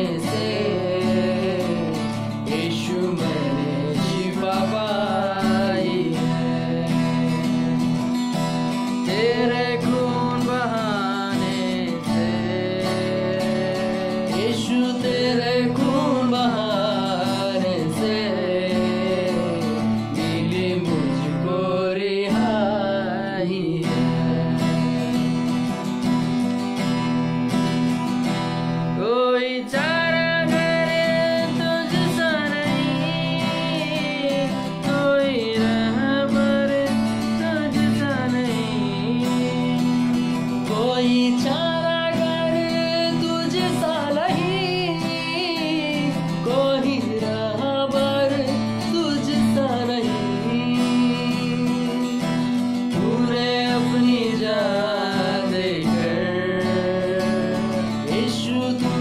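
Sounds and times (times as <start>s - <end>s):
men singing: 0.0s - 8.1s, 9.0s - 25.6s, 29.0s - 59.0s
strummed acoustic guitar: 0.0s - 59.0s.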